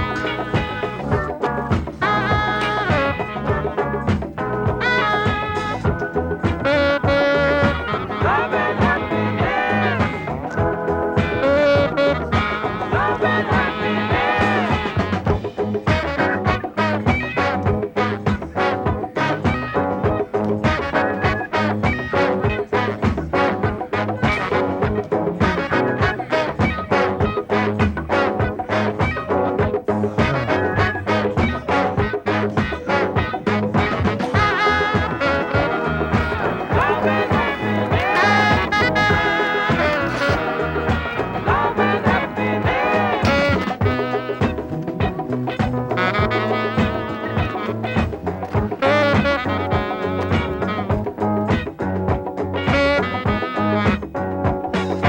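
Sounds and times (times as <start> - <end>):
upbeat swing music with brass: 0.0 - 55.0.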